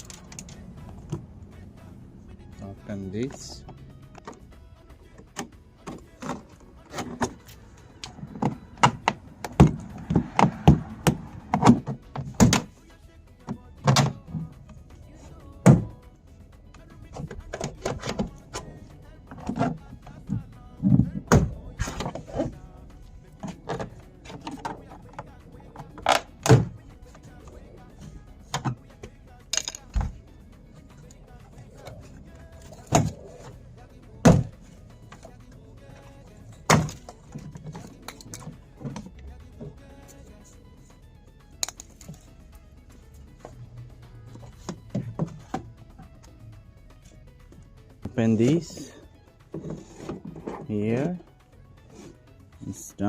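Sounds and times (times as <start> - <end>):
faint background music: 0.0 - 53.0.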